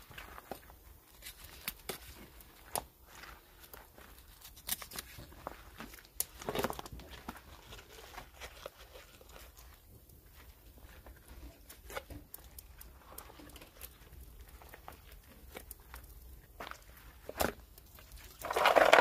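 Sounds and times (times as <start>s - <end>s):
wet rustle and tearing of skin: 0.0s - 19.0s.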